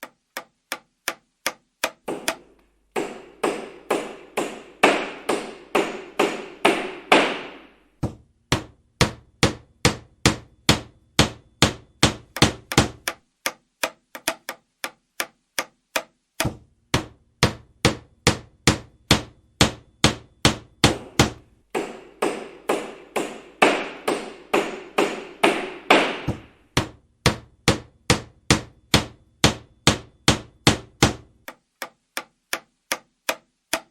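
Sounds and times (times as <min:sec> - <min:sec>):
hammer striking wood: 0:01.8 - 0:14.6, 0:15.6 - 0:32.0.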